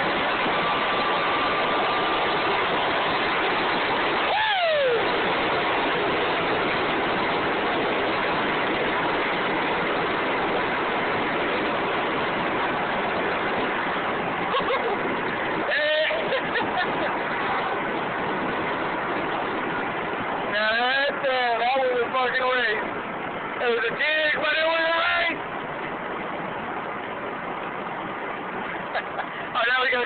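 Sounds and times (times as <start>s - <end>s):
wind and road noise inside vehicle: 0.0s - 30.0s.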